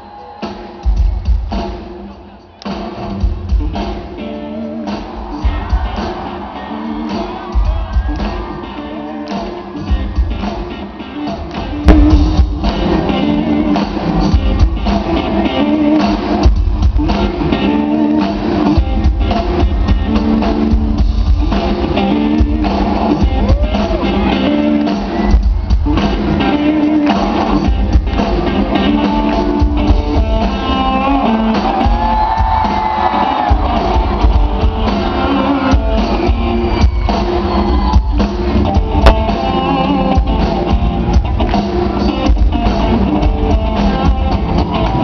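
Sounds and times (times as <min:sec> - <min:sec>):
live rock band playing: 0:00.1 - 0:45.0.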